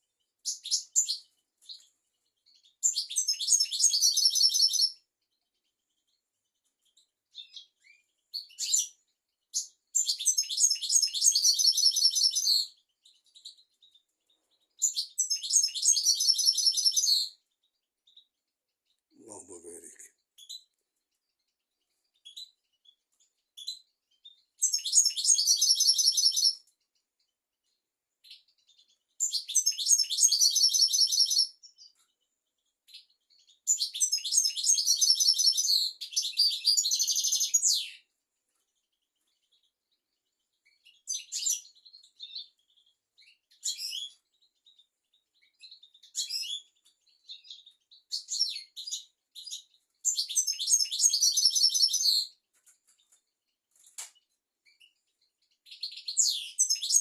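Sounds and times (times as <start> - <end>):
goldfinch twittering and trills: 0.4 - 6.2, 6.8 - 18.3, 20.4 - 26.8, 28.2 - 38.1, 40.6 - 52.4, 54.6 - 57.0.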